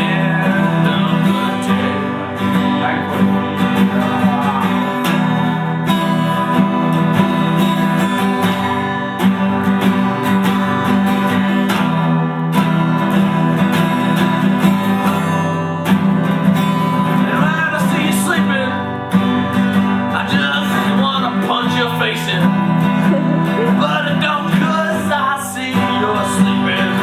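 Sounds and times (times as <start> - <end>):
lead guitar playing: 0.0 - 27.0
rhythm guitar strumming chords: 0.0 - 27.0.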